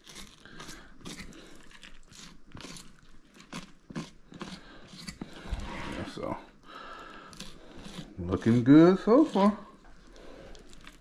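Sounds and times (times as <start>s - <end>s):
knife scraping under fish skin: 0.0s - 6.3s, 7.2s - 11.0s.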